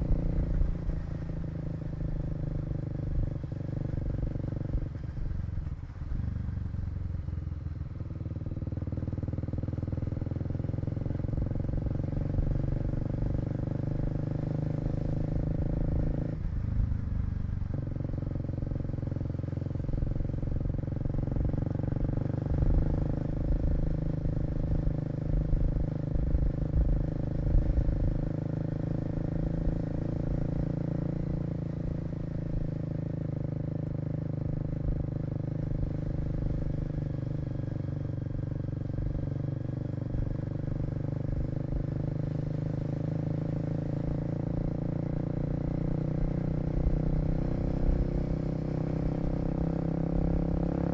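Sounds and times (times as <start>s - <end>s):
motorbike engine running: 0.0s - 50.9s.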